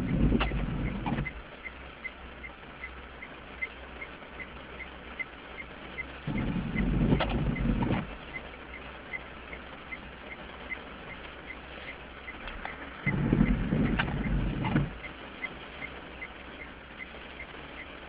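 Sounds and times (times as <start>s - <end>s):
faint ticking: 0.0s - 18.0s
light rain pattering on car: 0.0s - 18.0s
windscreen wipers swishing: 0.0s - 18.0s.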